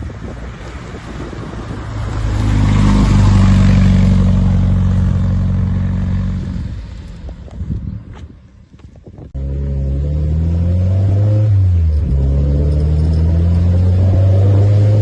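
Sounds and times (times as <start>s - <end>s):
car engine passing: 0.3s - 7.3s, 9.4s - 15.0s.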